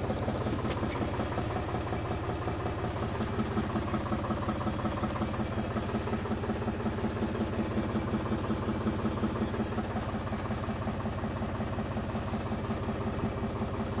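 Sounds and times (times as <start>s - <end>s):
forklift engine idling: 0.0s - 14.0s.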